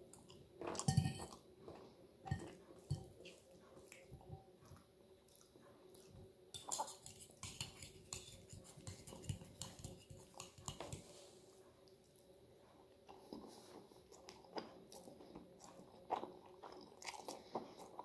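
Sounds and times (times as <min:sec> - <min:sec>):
soft chewing: 0:00.0 - 0:18.0.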